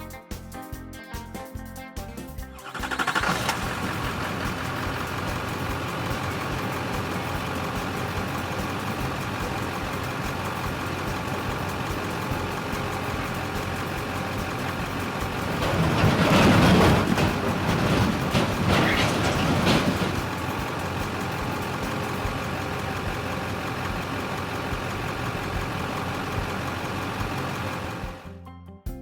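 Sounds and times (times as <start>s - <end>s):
heavy vehicle engine running: 2.6s - 28.4s.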